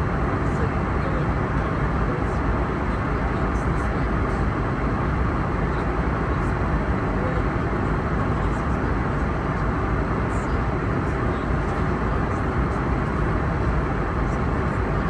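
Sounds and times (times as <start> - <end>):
airliner cabin roar: 0.0 - 15.0.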